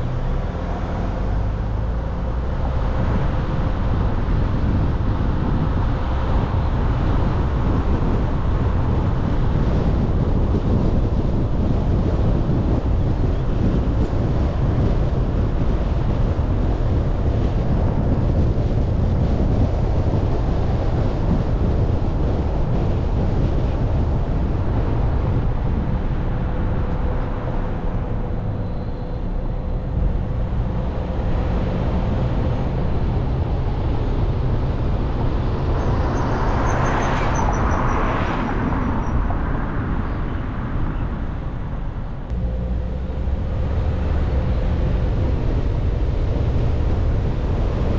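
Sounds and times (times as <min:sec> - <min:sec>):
car road and wind noise: 0:00.0 - 0:47.9.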